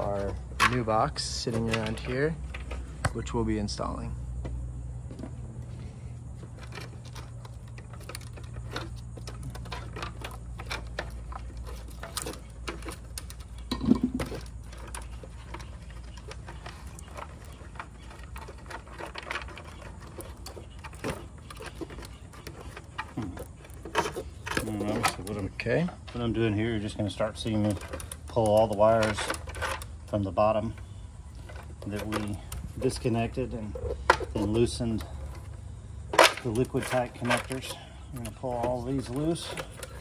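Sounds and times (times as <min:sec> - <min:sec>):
tools and wires clicking and rattling: 0:00.0 - 0:03.8, 0:06.3 - 0:40.0.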